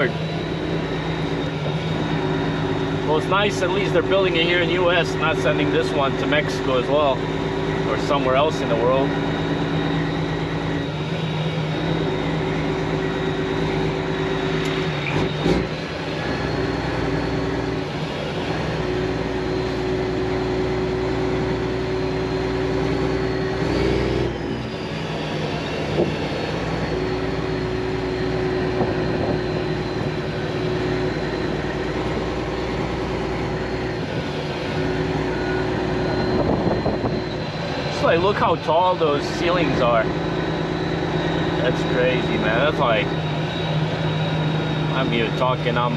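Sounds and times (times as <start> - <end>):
diesel truck engine running: 0.0 - 45.9
faint high whine: 0.0 - 45.9
road noise: 0.0 - 45.9.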